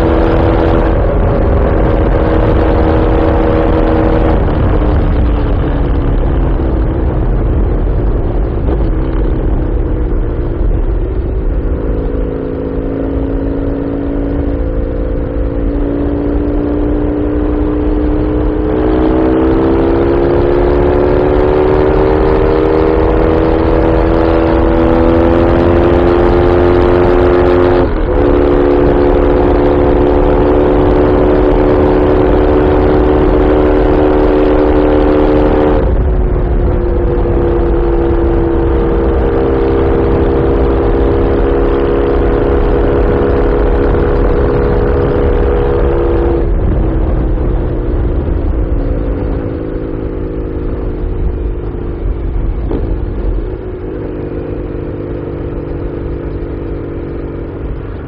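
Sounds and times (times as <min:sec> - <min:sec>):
motorcycle engine cruising: 0:00.0 - 0:58.0
wind rumble on microphone: 0:00.0 - 0:58.0.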